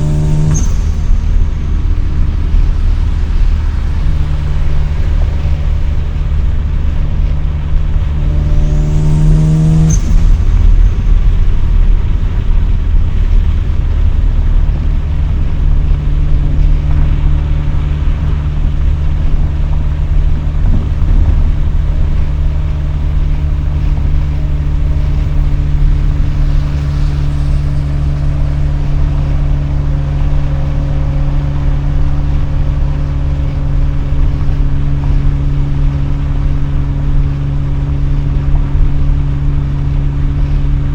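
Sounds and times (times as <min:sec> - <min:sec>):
low road rumble: 0:00.0 - 0:40.9
rotary engine revving and droning: 0:00.0 - 0:40.9.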